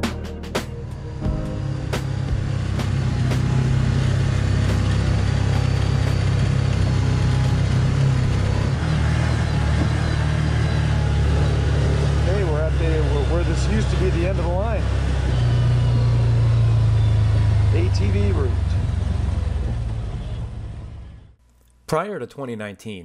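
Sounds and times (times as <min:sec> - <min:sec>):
vehicle engine running: 0:00.0 - 0:21.4.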